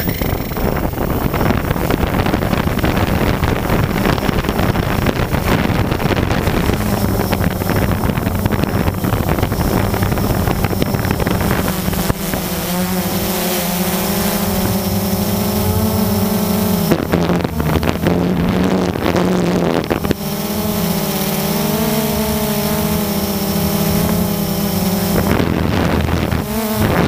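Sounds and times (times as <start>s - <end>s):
drone propellers whirring: 0.0s - 27.0s.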